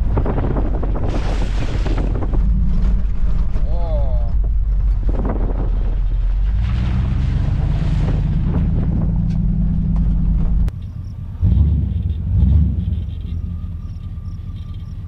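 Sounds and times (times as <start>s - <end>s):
car engine drone: 0.0s - 15.0s
low rumble: 0.0s - 15.0s
road noise: 0.0s - 15.0s.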